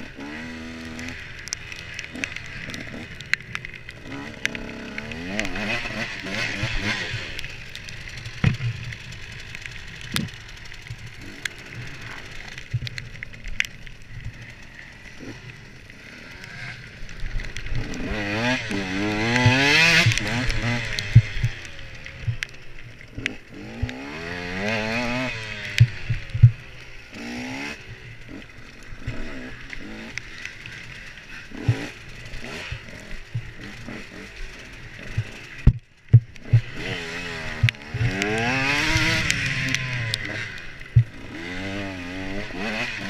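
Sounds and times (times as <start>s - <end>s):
motorcycle clattering over rough ground: 0.0s - 43.0s
motorcycle engine revving: 0.0s - 43.0s.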